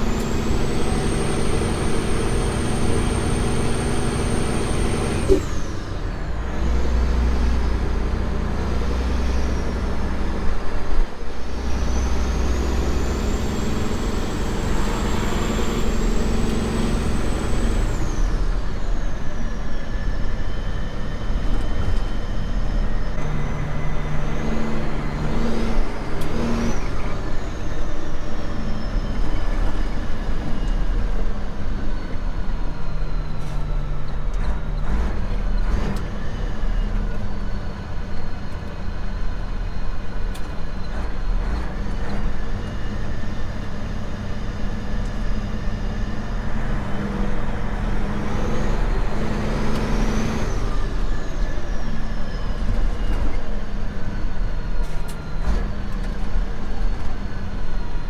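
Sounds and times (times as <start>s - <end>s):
truck engine drone: 0.0s - 58.0s.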